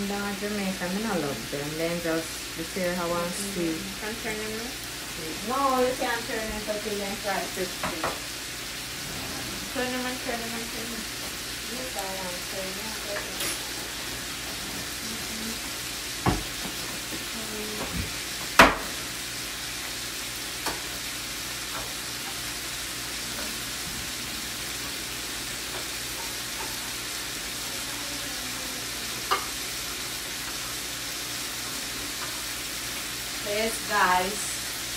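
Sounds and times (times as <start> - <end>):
bacon sizzling in a frying pan: 0.0 - 34.9.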